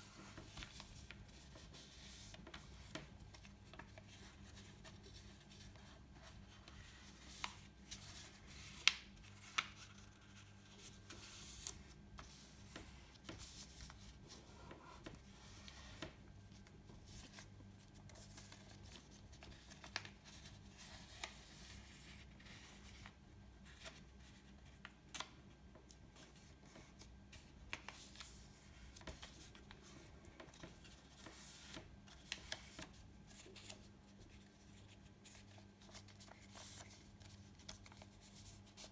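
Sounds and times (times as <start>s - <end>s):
paper folding and rustling: 0.0s - 38.9s.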